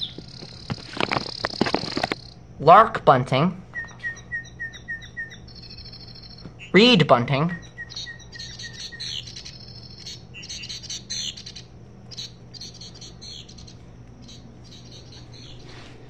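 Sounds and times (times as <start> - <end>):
recorded bird chirping from speaker: 0.0 - 15.9
low steady hum: 0.0 - 16.0.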